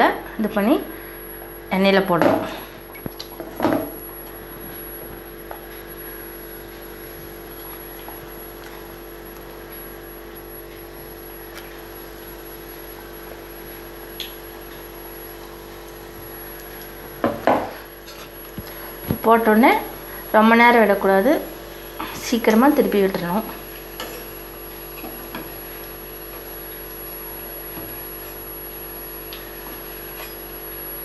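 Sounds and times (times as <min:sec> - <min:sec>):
steady low hum: 0:00.0 - 0:31.0
food frying in oil: 0:02.8 - 0:19.1, 0:20.9 - 0:31.0.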